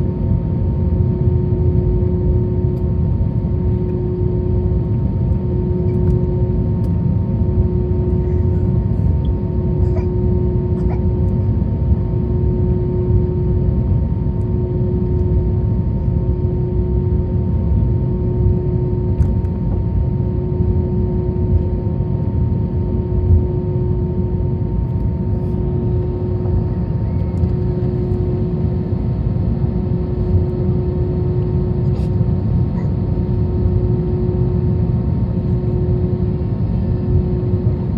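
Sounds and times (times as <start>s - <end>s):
airliner cabin rumble: 0.0s - 37.9s
idling jet engines hum: 0.0s - 37.9s.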